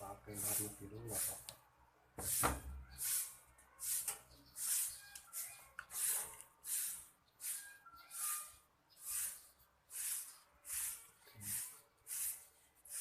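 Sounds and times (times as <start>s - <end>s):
short scraping strokes: 2.2s - 13.0s.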